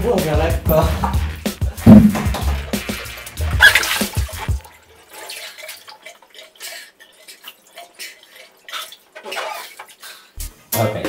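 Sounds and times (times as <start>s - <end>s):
water sloshing in bathtub: 0.8s - 10.4s.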